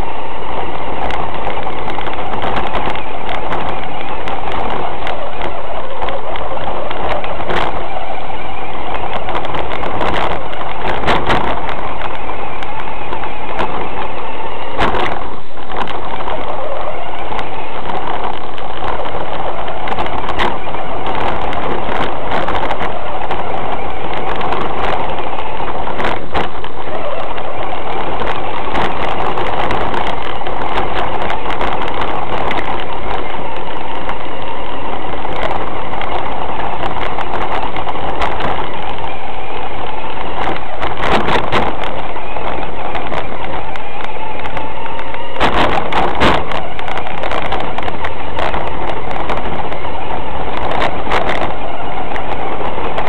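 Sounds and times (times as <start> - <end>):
rc car motor and drivetrain: 0.0 - 53.0.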